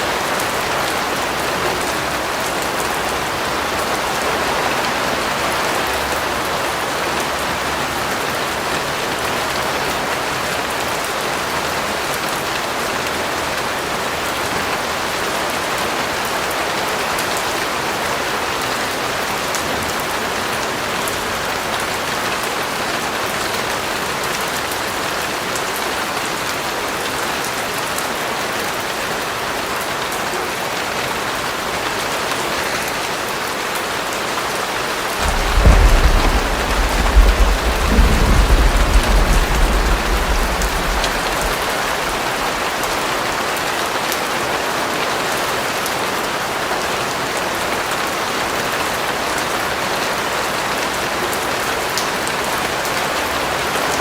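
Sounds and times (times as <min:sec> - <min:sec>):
steady rain pattering: 0:00.0 - 0:54.0.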